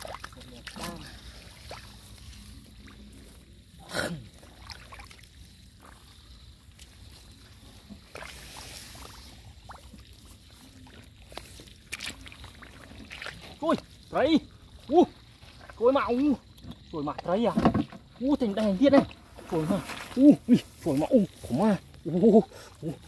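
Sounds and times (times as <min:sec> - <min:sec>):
water sloshing and trickling: 0:00.0 - 0:23.0.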